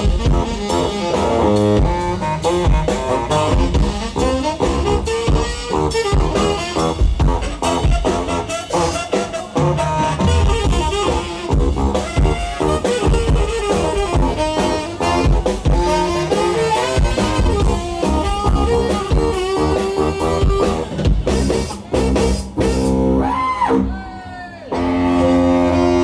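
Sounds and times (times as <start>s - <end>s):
tenor saxophone melody: 0.0s - 23.9s, 24.7s - 26.0s
drum kit: 0.0s - 24.1s, 24.8s - 26.0s.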